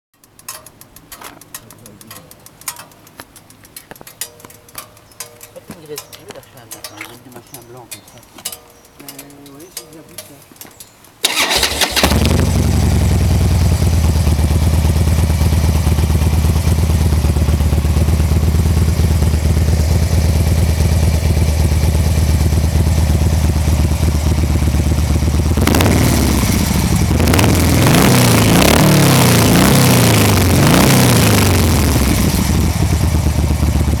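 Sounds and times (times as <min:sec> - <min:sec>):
motorcycle idling and revving: 0:00.2 - 0:34.0.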